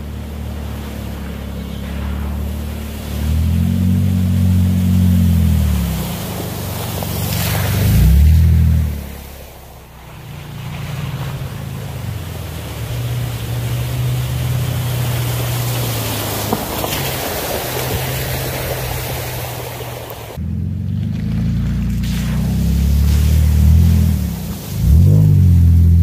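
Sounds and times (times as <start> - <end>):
truck engine running: 0.0 - 26.0
water splashing around tyres: 0.0 - 26.0.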